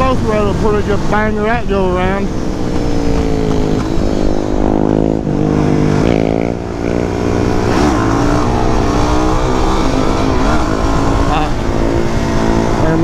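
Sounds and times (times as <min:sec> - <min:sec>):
motorcycle engine accelerating: 0:00.0 - 0:13.0
wind rumble on microphone: 0:00.0 - 0:13.0.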